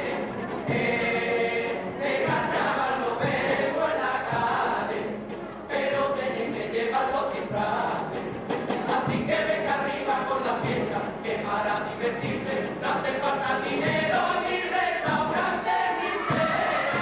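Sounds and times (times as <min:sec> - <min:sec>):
group chorus singing: 0:00.0 - 0:17.0.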